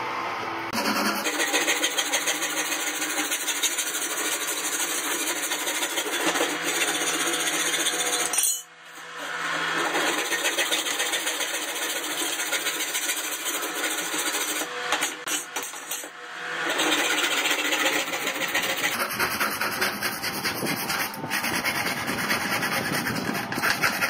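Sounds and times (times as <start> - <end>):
hacksaw sawing through metal: 0.8 - 24.0.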